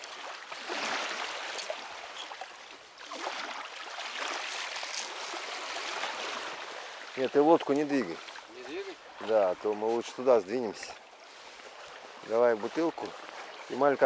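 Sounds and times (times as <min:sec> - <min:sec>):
water lapping against boat hull: 0:00.0 - 0:14.0.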